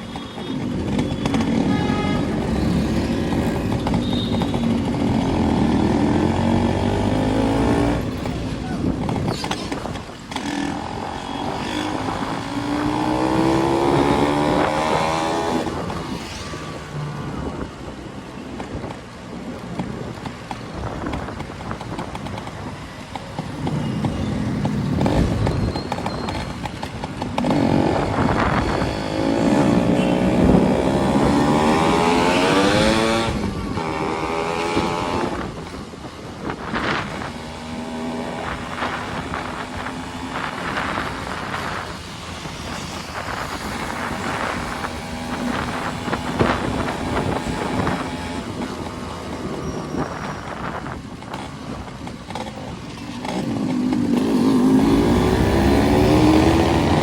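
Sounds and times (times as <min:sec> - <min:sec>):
motorcycle engines revving: 0:00.0 - 0:57.0
road noise: 0:00.0 - 0:57.0.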